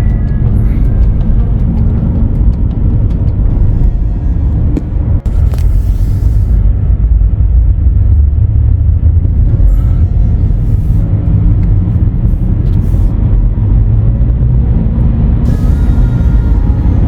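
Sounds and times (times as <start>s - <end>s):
car driving on road: 0.0s - 17.0s.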